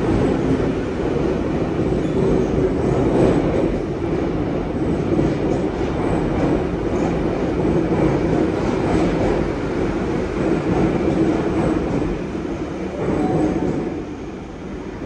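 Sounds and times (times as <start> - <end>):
train rumbling along platform: 0.0 - 15.0.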